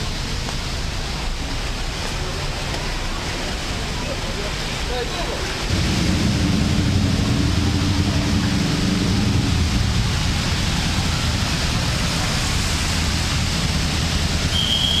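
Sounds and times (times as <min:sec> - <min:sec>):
heavy rain rushing: 0:00.0 - 0:15.0.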